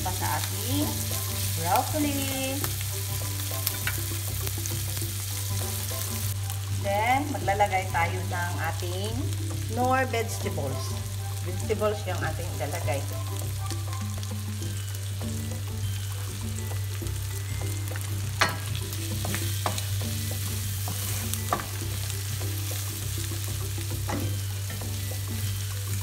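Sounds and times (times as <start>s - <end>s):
food sizzling in a skillet: 0.0s - 26.0s.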